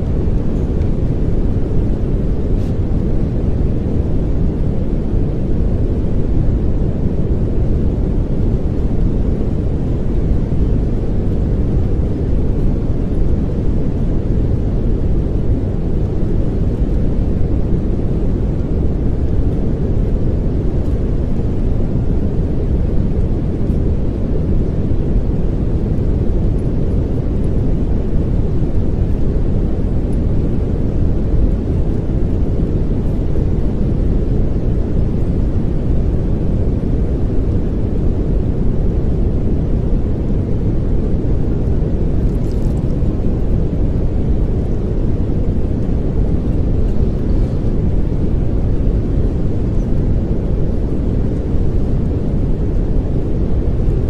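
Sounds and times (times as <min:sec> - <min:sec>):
pink noise hiss: 0:08.1 - 0:54.0.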